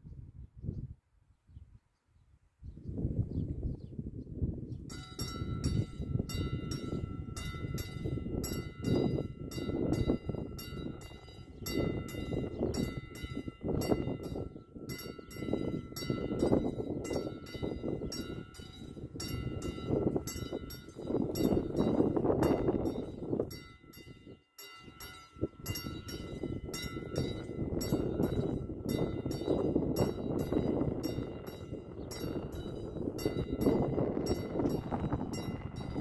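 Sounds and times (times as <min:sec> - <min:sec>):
wind rumbling on microphone: 0:00.0 - 0:36.0
level crossing warning bell: 0:04.9 - 0:36.0.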